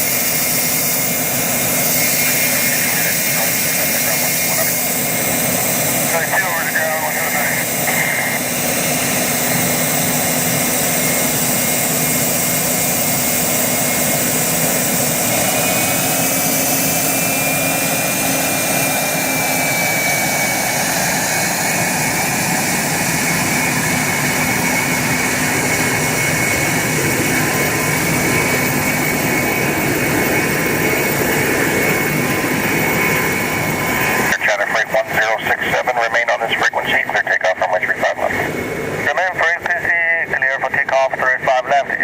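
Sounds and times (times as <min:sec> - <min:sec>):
jet engines idling: 0:00.0 - 0:42.0.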